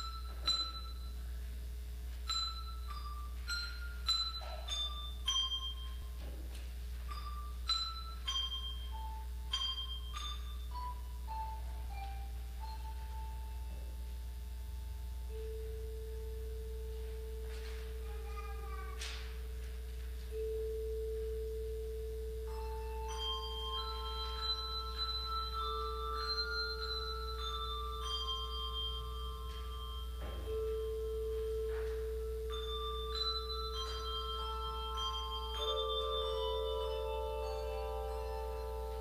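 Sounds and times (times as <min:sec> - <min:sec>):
handbell choir playing: 0:00.0 - 0:06.2, 0:07.0 - 0:18.5, 0:19.5 - 0:39.0.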